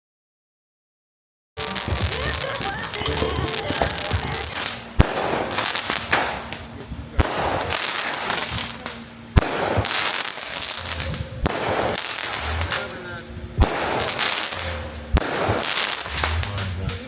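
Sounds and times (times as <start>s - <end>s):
fireworks bangs: 1.6s - 17.0s.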